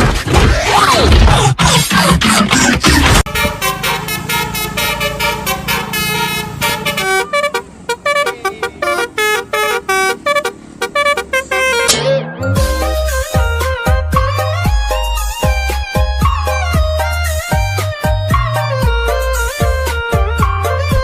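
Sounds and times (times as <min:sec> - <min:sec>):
multi-tone bus horn tune: 0:03.2 - 0:21.0.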